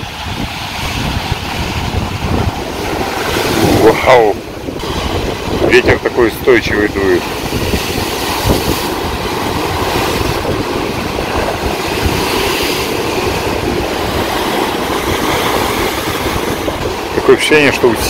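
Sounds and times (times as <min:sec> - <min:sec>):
waves breaking against breakwater: 0:00.0 - 0:18.0
wind buffeting microphone: 0:00.0 - 0:18.0.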